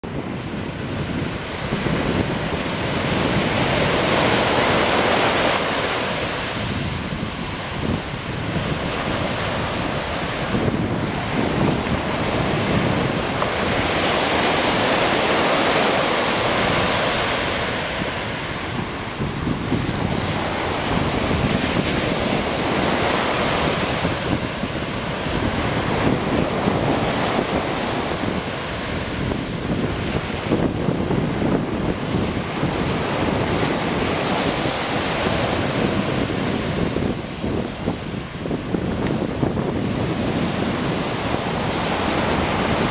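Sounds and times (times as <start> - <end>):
ocean surf breaking: 0.0 - 42.9
wind buffeting microphone: 0.0 - 42.9.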